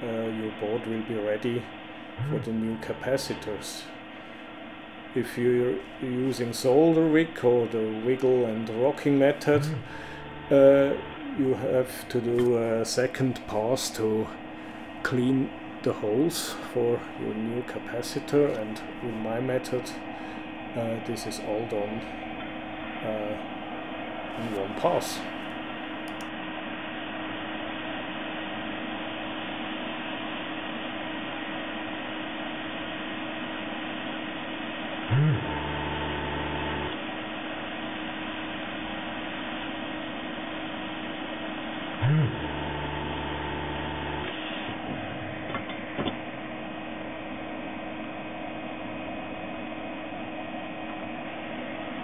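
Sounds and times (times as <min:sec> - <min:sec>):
desoldering vacuum pump humming: 0:00.0 - 0:52.0.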